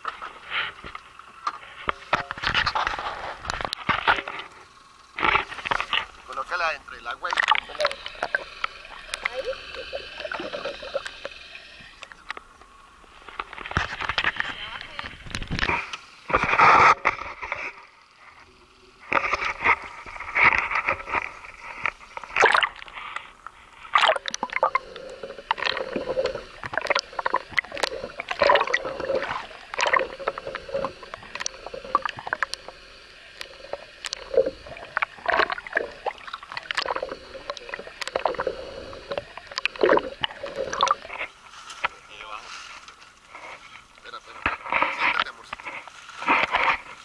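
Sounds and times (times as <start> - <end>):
water sloshing around boat: 0.0 - 47.0.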